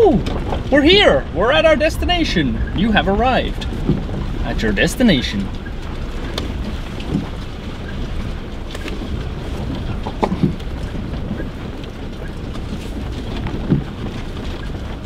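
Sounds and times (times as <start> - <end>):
engine and tyre rumble: 0.0 - 15.0
vehicle knocks and creaks: 0.0 - 15.0.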